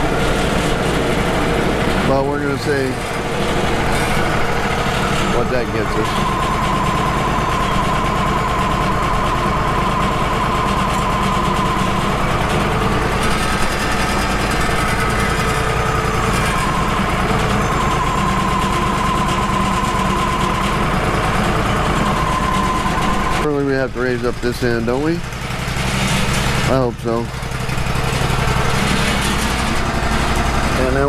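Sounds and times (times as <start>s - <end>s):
band saw blade whining through log: 0.0s - 31.0s
band sawmill engine running: 0.0s - 31.0s.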